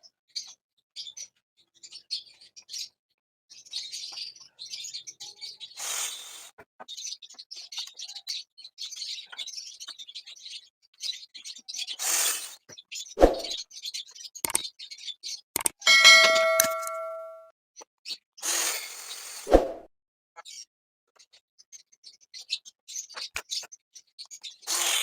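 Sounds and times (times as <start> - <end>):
small birds chirping: 0.0 - 19.4, 20.4 - 25.0.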